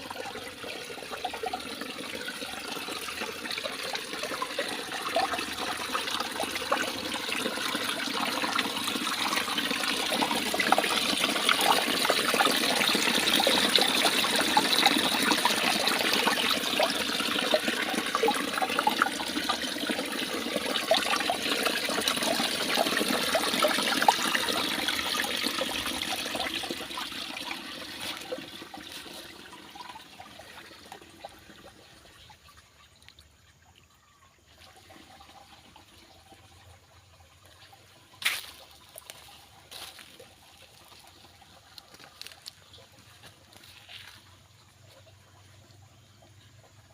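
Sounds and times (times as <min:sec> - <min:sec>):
stream splashing over stones: 0:00.0 - 0:33.7, 0:34.5 - 0:45.2.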